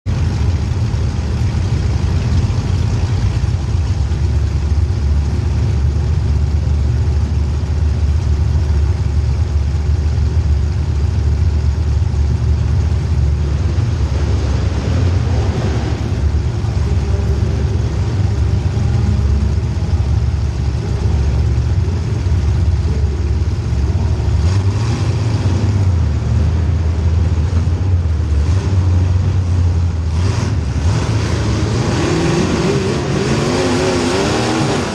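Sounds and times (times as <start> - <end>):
race car engine running hard: 0.0 - 34.9.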